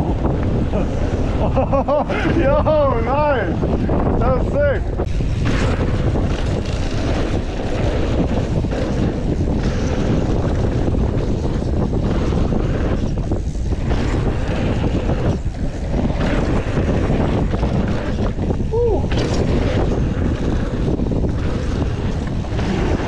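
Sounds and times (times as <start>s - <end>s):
bike rolling over dirt trail: 0.0s - 23.0s
wind rushing over microphone: 0.0s - 23.0s.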